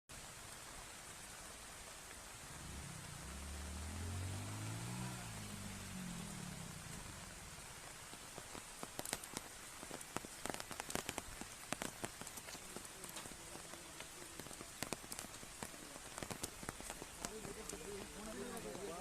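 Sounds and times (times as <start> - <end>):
rain falling: 0.1 - 19.0
raindrops tapping a surface: 0.1 - 19.0.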